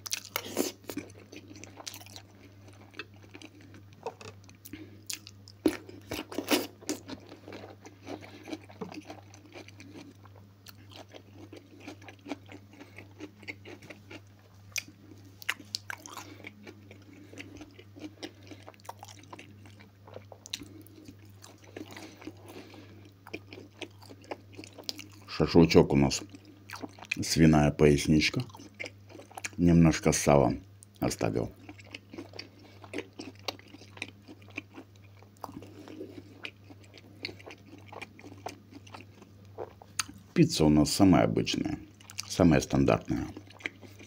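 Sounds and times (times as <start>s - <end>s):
person chewing food: 0.0s - 25.3s, 26.2s - 27.2s, 28.3s - 29.6s, 30.8s - 40.2s, 41.9s - 42.3s, 43.1s - 44.0s.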